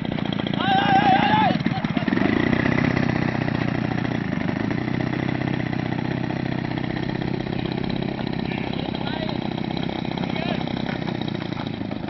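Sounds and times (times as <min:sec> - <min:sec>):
two-stroke model engine running: 0:00.0 - 0:12.0.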